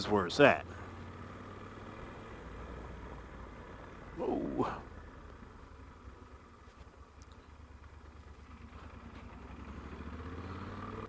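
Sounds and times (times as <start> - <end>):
motorcycle engine humming: 0.0 - 11.0.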